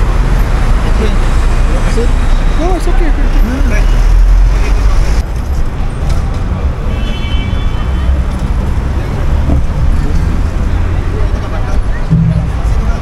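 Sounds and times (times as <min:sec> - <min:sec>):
rumble of passing cars: 0:00.0 - 0:07.0, 0:07.8 - 0:13.0.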